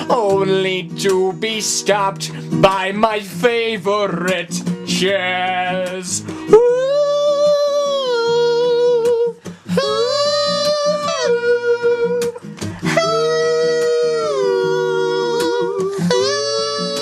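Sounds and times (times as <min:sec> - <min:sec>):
plucked guitar: 0:00.0 - 0:17.0.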